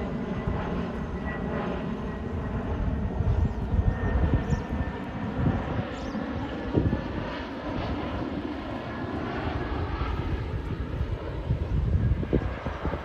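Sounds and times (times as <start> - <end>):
airplane flying overhead: 0.0 - 13.0.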